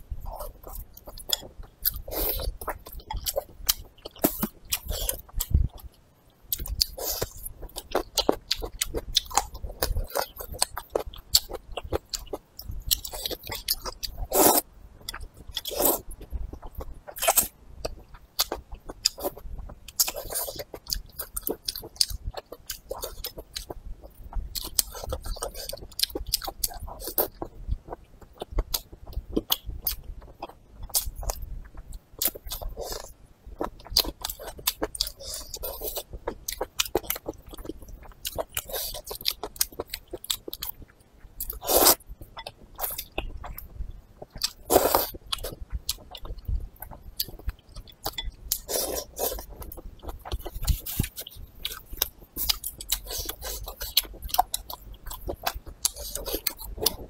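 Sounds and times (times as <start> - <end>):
chewing noodles with wet smacks: 0.2 - 57.0.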